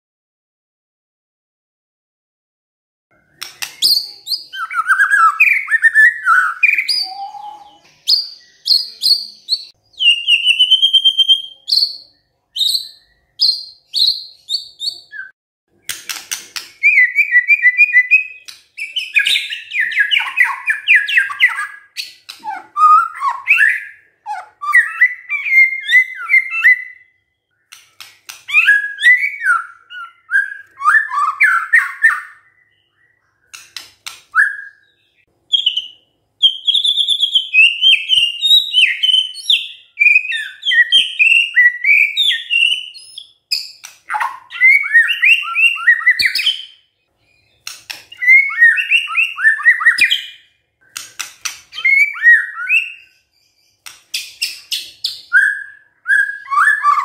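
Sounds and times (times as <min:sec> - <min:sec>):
songbird whistling and trilling: 0:03.2 - 0:16.0, 0:16.8 - 0:57.0.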